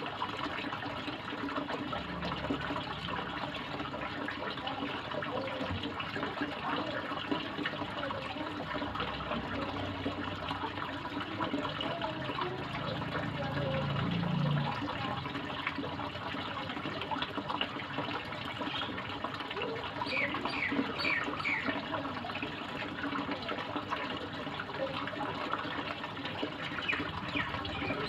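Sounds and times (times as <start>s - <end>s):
water splashing into pond: 0.0s - 28.0s.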